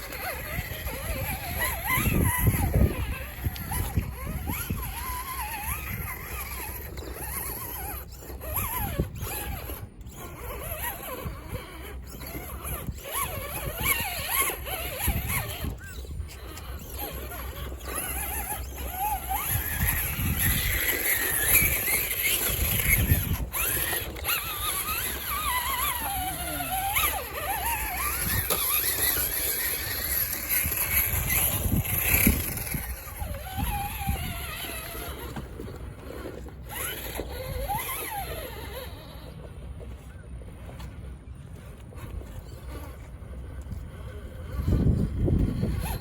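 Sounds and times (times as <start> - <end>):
electric motor whining: 0.0 - 39.6, 41.9 - 46.0.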